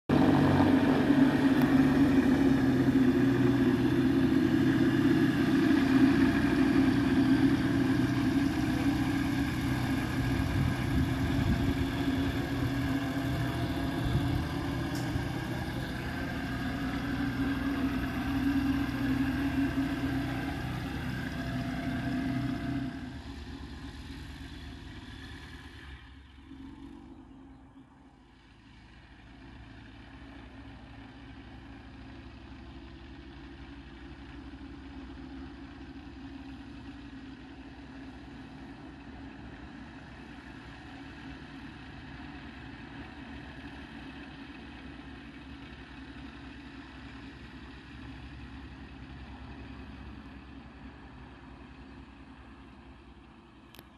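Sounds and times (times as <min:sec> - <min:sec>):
propeller aircraft engine drone: 0:00.1 - 0:53.9.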